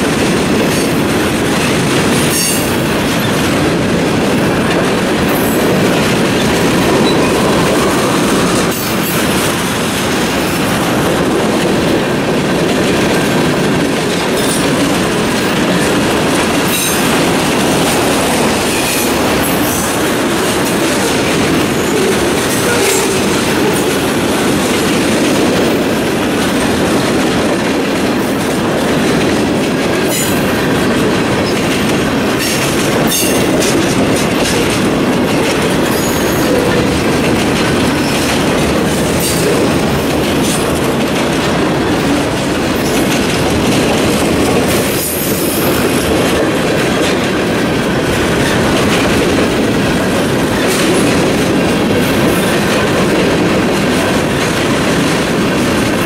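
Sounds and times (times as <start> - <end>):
freight car wheels rumbling on rail: 0.0 - 56.0.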